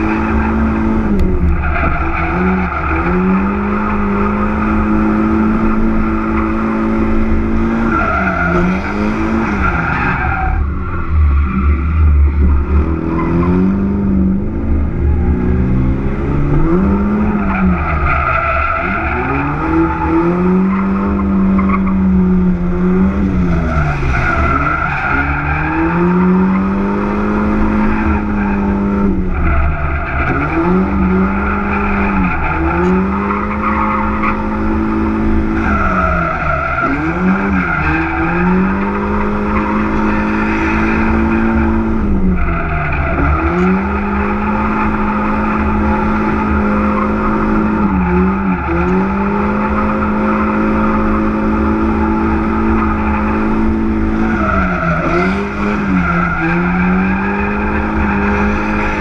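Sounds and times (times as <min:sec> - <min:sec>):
car engine at high revs: 0:00.0 - 0:59.0
tyres skidding: 0:00.0 - 0:59.0.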